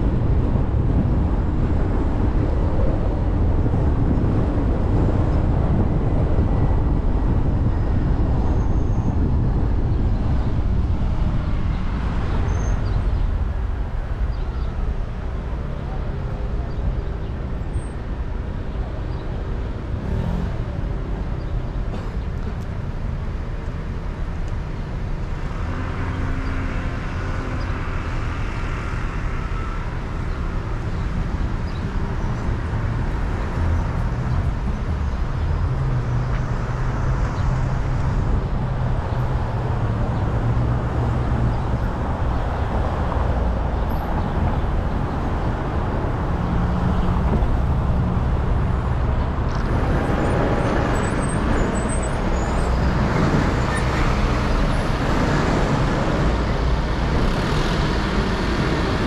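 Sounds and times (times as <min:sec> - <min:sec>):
car engine and tyre rumble: 0:00.0 - 0:59.0
vehicles passing: 0:00.0 - 0:59.0.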